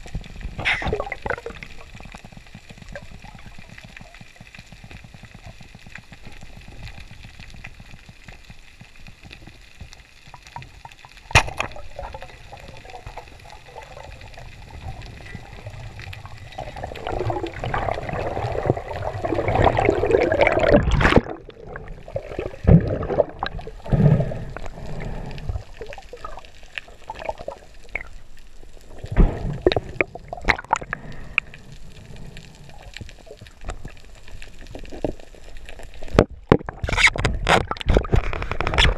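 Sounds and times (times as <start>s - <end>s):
underwater rush of water: 0.0s - 38.9s.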